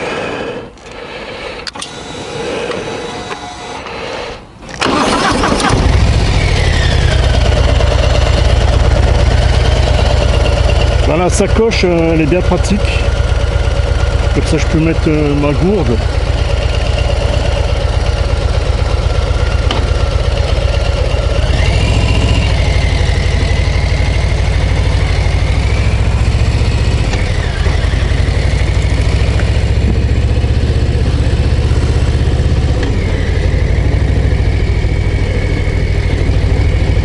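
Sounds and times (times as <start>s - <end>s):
motorcycle engine running loudly: 5.6s - 37.0s.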